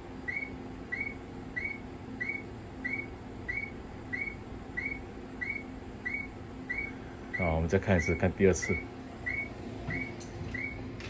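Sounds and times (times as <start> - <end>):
electronic warning beeper chirps: 0.2 - 10.9.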